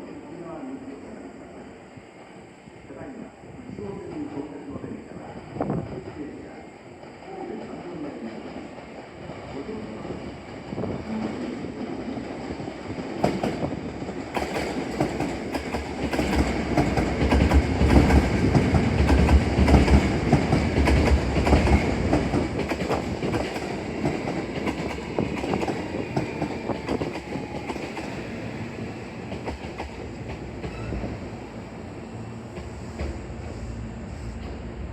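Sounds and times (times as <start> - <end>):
train rolling past: 0.0 - 34.9.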